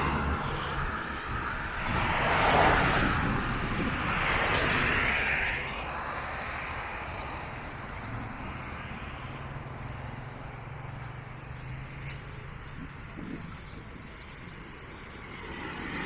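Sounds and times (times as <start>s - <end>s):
low steady engine hum: 0.0s - 16.0s
vehicle passing: 0.0s - 16.0s.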